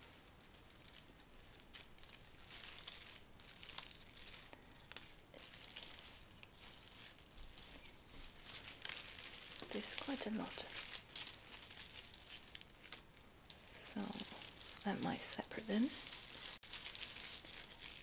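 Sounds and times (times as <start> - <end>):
rustling of cut flowers: 0.0 - 18.0.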